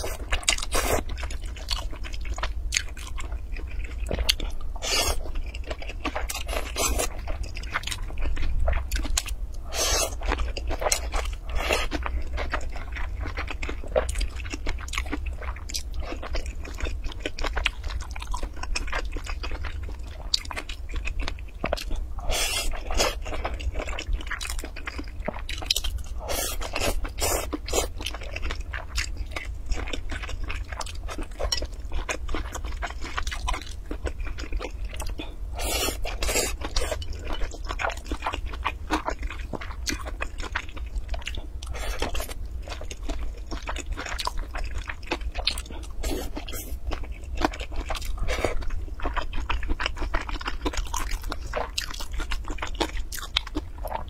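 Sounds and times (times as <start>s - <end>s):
chewing and biting noodles: 0.0s - 54.0s
steady low hum: 0.0s - 54.0s.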